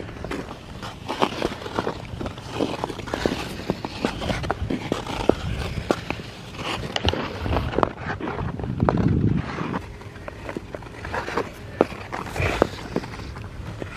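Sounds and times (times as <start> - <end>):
skate blades scraping ice: 0.0 - 13.9.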